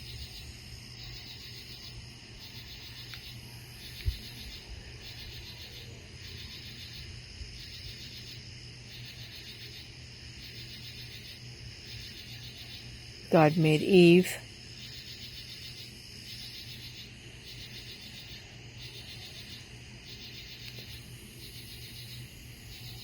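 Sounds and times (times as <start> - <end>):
night insects trilling: 0.0 - 23.0.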